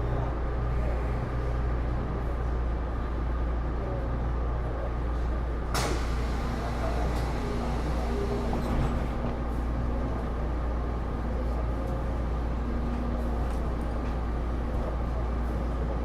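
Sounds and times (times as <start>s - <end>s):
subway car deep rumble: 0.0s - 16.0s.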